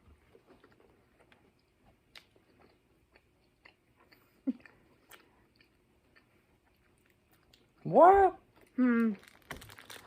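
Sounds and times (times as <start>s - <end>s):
person chewing candy bar: 0.3s - 7.8s, 8.5s - 10.0s.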